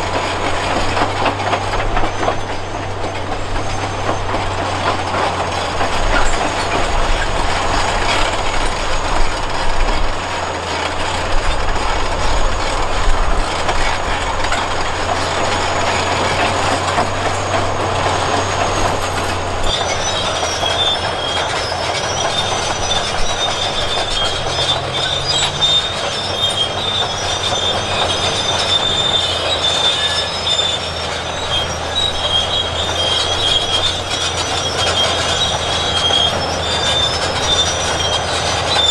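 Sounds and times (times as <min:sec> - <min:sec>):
bulldozer diesel engine running: 0:00.0 - 0:38.9
high steady squeal: 0:00.0 - 0:38.9
steel tracks clattering: 0:00.0 - 0:38.9.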